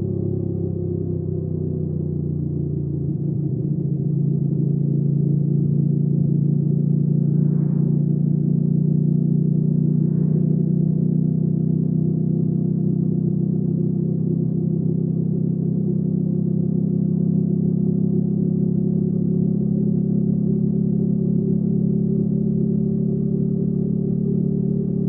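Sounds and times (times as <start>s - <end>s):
motorcycle engine at steady revs: 0.0s - 25.0s.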